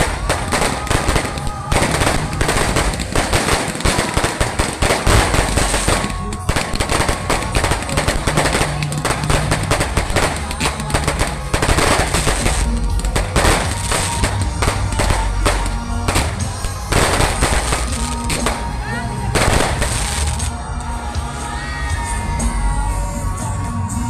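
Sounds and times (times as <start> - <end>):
fireworks bangs and crackles: 0.0 - 23.5.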